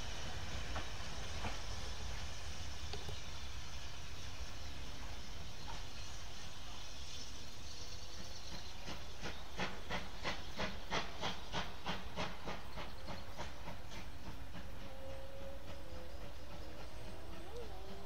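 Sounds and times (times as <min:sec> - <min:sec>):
steady steam hiss: 0:00.0 - 0:18.0
steam locomotive exhaust beats: 0:00.0 - 0:18.0.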